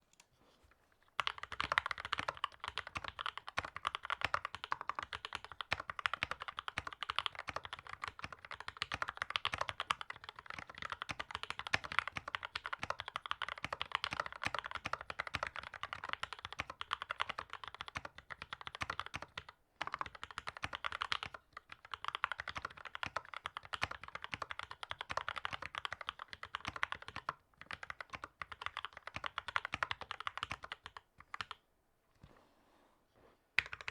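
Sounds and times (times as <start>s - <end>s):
mechanical keyboard typing: 1.2s - 31.6s, 33.6s - 33.9s.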